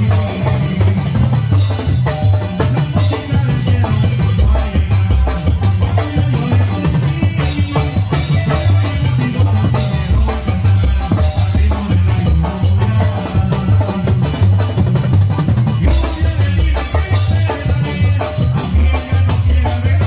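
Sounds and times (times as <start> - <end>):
drum and cymbal beat: 0.0 - 20.0
keyboard: 0.0 - 20.0
repeating bass line: 0.0 - 20.0.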